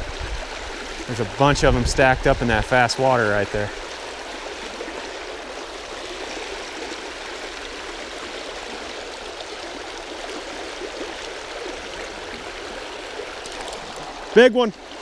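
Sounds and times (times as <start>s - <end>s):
creek water over gravel: 0.0s - 15.0s
water gurgles: 0.0s - 15.0s.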